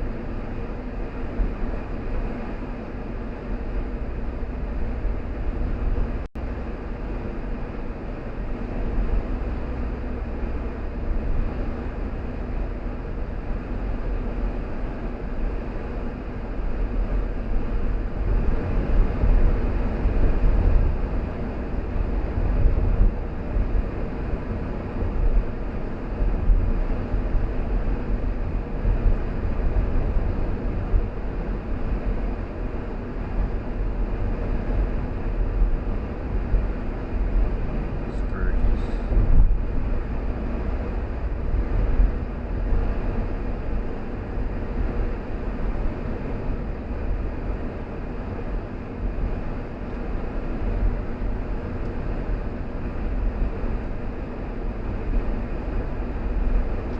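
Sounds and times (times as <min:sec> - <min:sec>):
car engine and tyre rumble: 0:00.0 - 0:56.9
faint steady hum: 0:00.0 - 0:56.9.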